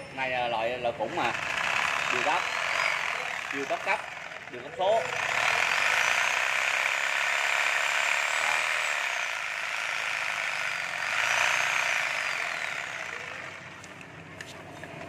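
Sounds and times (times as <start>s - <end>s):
reciprocating saw motor whine: 1.2s - 14.0s.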